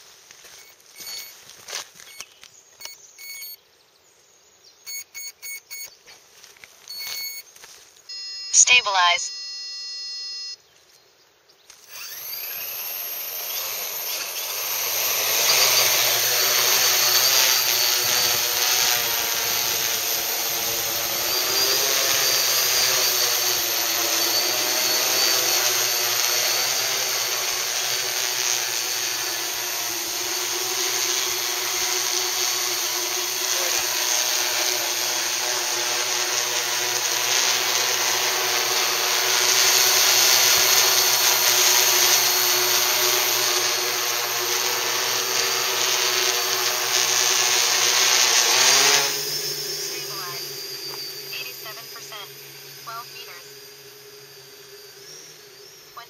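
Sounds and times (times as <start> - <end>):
drone motors buzzing whine: 0.0 - 3.6, 6.8 - 10.6, 11.7 - 56.0.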